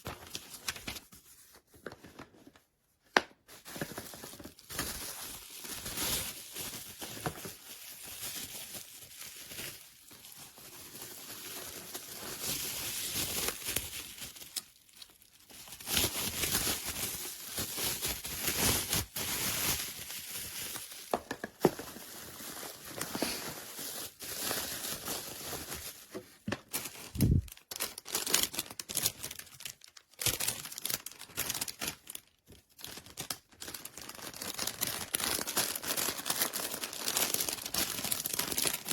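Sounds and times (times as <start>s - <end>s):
packaging crinkling and rustling: 0.0s - 38.9s.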